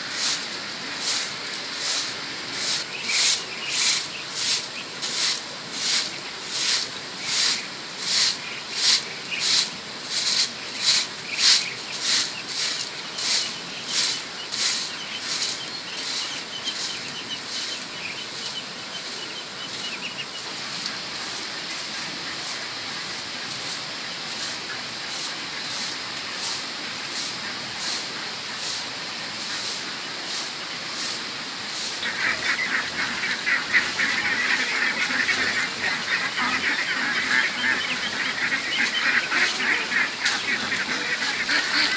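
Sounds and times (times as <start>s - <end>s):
ducks and geese: 0.0s - 31.2s, 31.8s - 41.9s
broom sweeping concrete: 0.0s - 41.9s
outdoor hiss: 0.0s - 41.9s.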